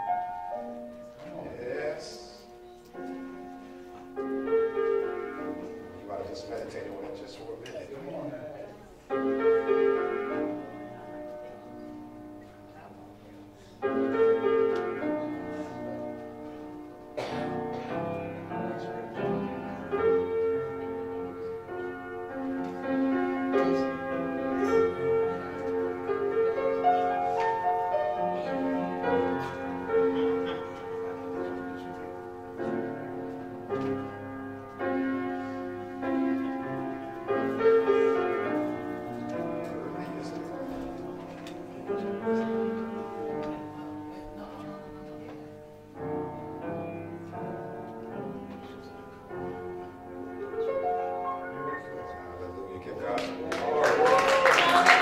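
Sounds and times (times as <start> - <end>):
slow keyboard music: 0.0 - 55.0.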